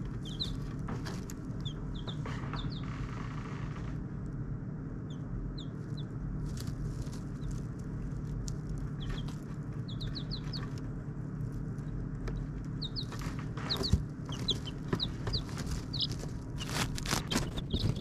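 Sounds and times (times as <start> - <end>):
chickens clucking: 0.0 - 2.9, 5.1 - 18.0
steady low hum: 0.0 - 18.0.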